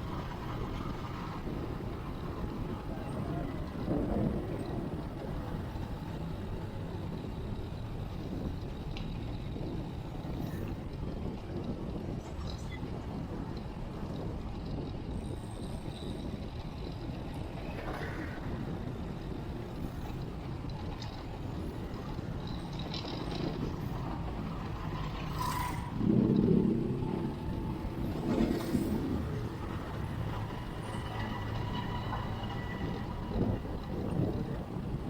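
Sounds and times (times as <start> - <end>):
passing motor vehicles: 0.0 - 35.0
road noise: 0.0 - 35.0.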